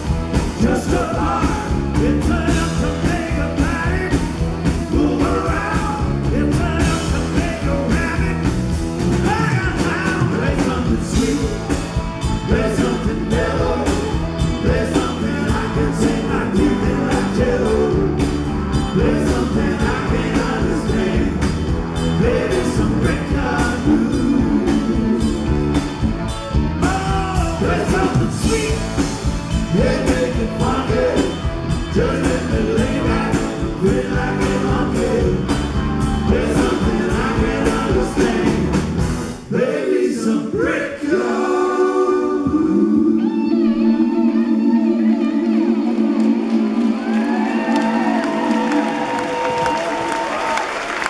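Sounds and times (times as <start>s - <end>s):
rock band playing live: 0.0s - 39.5s, 42.4s - 50.5s
lead singer: 0.0s - 51.0s.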